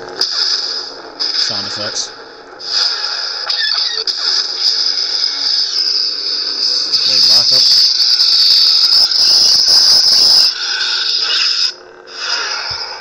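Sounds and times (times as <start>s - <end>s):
lightsaber hum: 0.0s - 13.0s.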